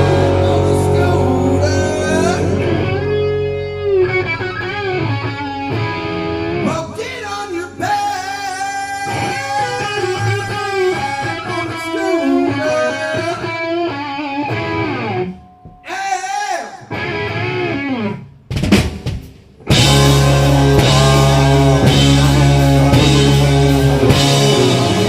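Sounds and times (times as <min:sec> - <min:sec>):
rock band playing: 0:00.0 - 0:15.8, 0:16.9 - 0:25.0
electric guitar lead: 0:00.0 - 0:15.9, 0:16.8 - 0:18.5, 0:19.6 - 0:25.0.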